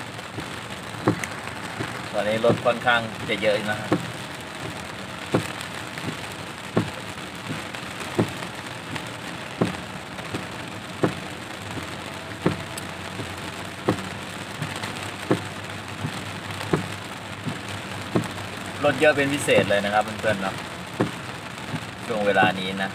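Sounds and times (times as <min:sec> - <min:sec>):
heavy rain on car windshield: 0:00.0 - 0:22.9
windshield wipers thumping: 0:00.0 - 0:22.9.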